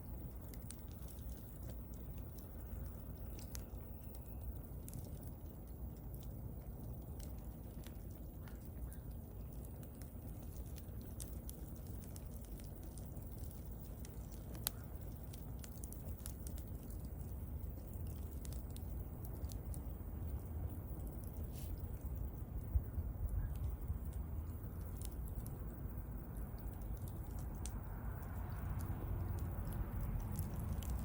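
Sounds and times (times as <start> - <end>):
low steady rumble: 0.0 - 31.0
wood fire crackling: 0.0 - 31.0.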